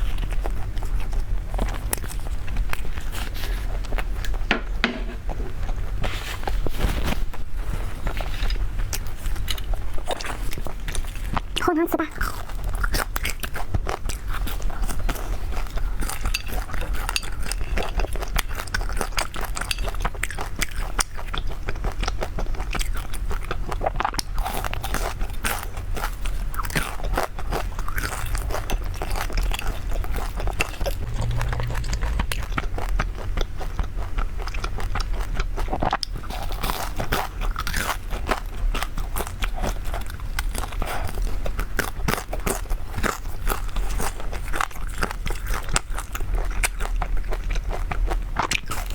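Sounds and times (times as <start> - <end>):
chewing: 7.8 - 48.9.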